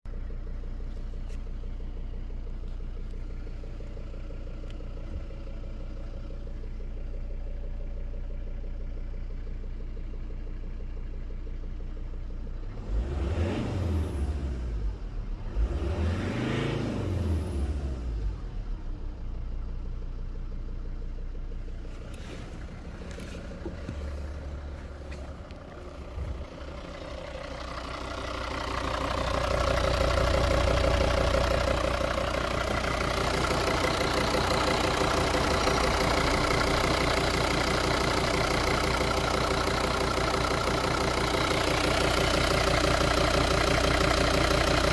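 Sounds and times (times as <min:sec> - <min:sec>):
diesel engine idling with knock: 0:00.1 - 0:13.1, 0:17.3 - 0:44.9.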